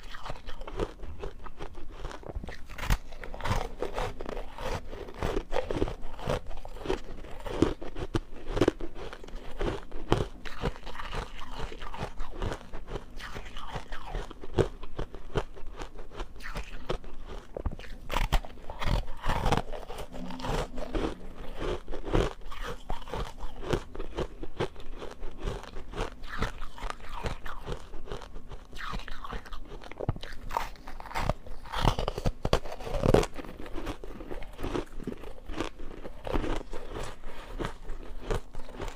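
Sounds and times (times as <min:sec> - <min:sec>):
ice crunching in mouth: 0:00.0 - 0:38.9.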